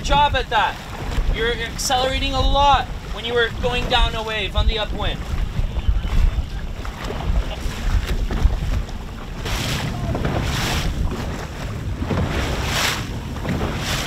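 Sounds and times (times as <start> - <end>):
water splashing against boat: 0.0 - 14.0
wind buffeting microphone: 0.0 - 14.0.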